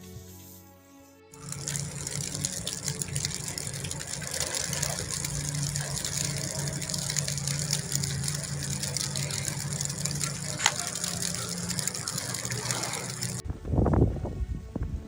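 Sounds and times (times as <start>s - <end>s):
crackle of small ticks: 1.4s - 13.4s
motor humming: 1.4s - 13.4s.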